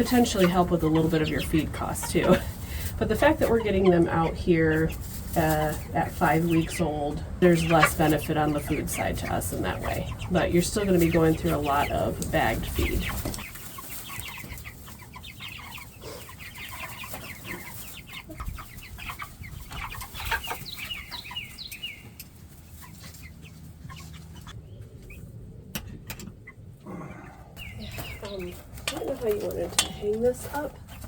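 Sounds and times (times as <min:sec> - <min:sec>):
chickens clucking and peeping: 0:00.0 - 0:31.0.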